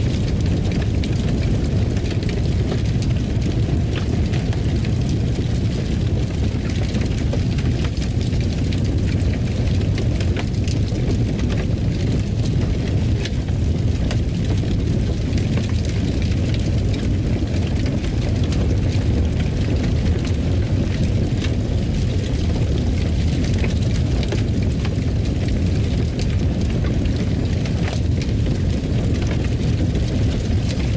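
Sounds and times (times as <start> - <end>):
fire crackling and popping: 0.0 - 30.9.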